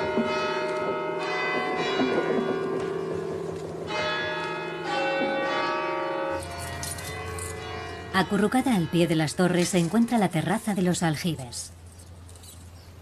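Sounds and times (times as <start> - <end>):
church bells ringing: 0.0 - 11.5.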